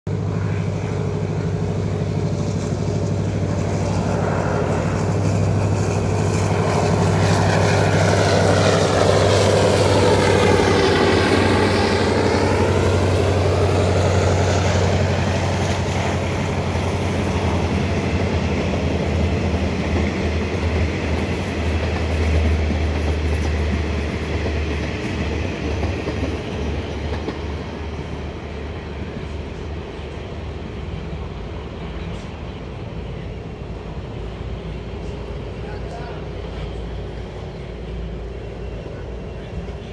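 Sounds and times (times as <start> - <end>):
locomotive engine drone: 0.1 - 39.9
train wheels rumbling on rails: 0.1 - 39.9.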